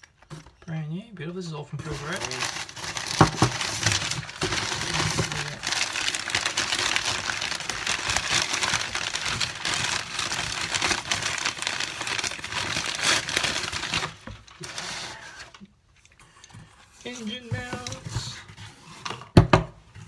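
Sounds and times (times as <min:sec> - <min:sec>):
packing paper rustling and crinkling: 0:01.8 - 0:20.0.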